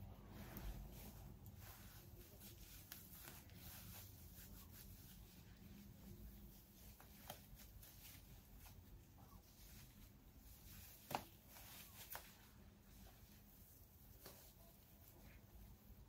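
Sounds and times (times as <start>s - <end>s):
wig rustling: 0.0s - 16.0s.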